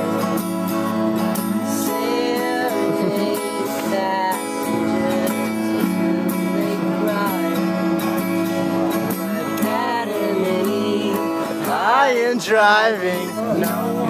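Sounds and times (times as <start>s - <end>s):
person singing: 0.0s - 14.0s
strummed acoustic guitar: 0.0s - 14.0s.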